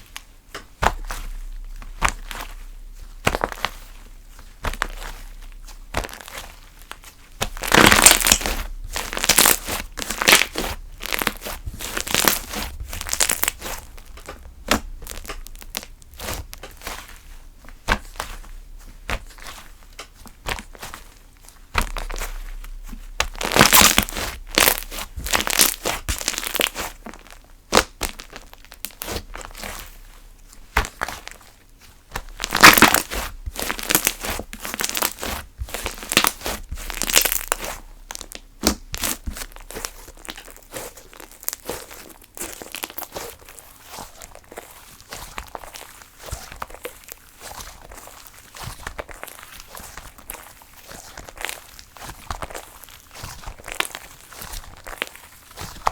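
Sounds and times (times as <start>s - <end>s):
slime squished by hand: 0.0s - 55.9s.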